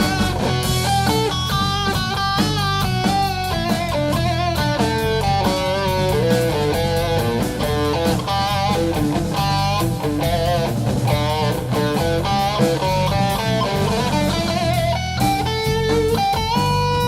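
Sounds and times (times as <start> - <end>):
electric guitar lead: 0.0 - 17.0
rock band playing: 0.0 - 17.0.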